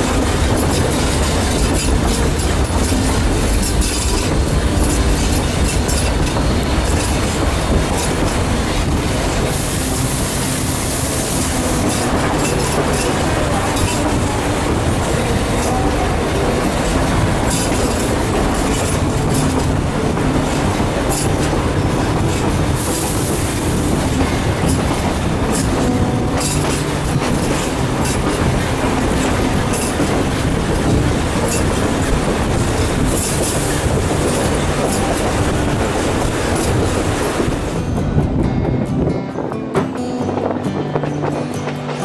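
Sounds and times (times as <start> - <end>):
wheels clicking over rail joints: 0.0 - 38.2
train cars rumbling: 0.0 - 42.0.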